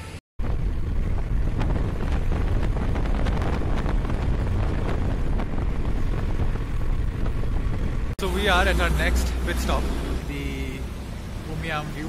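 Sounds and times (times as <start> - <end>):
motorcycle engine: 0.0 - 12.0
road noise: 0.0 - 12.0
wind rushing over microphone: 0.4 - 12.0.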